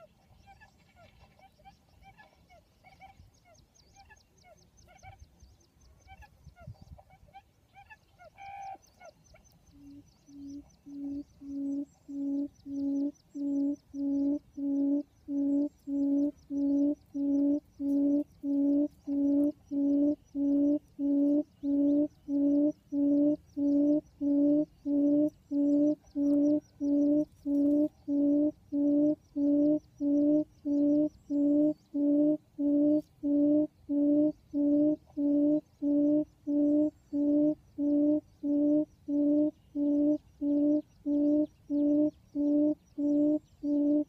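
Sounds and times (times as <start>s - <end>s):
low hooting quail call: 0.0s - 5.3s, 6.0s - 44.0s.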